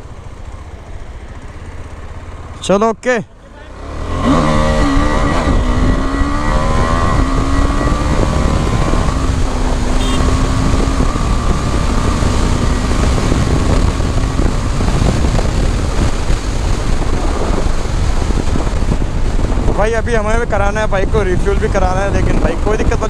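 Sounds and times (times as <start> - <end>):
motorcycle engine pulling hard: 3.7 - 23.0
wind rush on microphone: 3.8 - 23.0.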